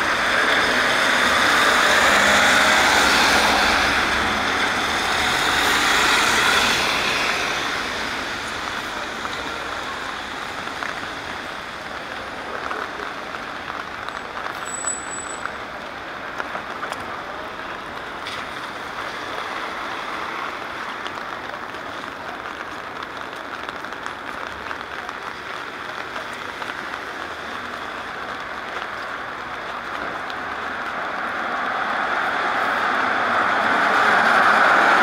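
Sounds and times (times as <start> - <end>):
rain pattering: 0.0 - 35.0
tyres hissing on wet road: 0.0 - 35.0.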